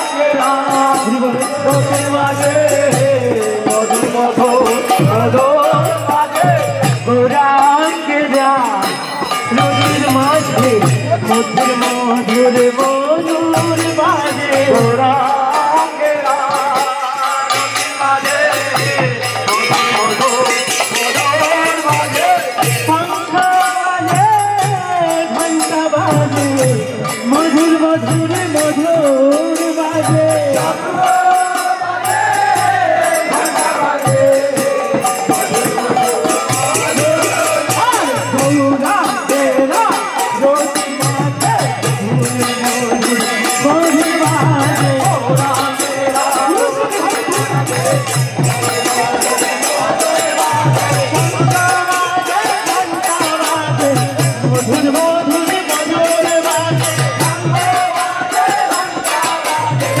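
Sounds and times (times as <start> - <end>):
hand cymbals beating: 0.0 - 60.0
voices singing a devotional chant: 0.0 - 60.0.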